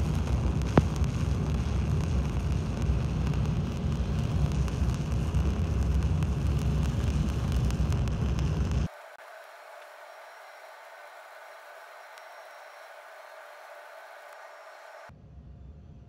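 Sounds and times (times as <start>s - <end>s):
welding arc crackling: 0.0s - 15.1s.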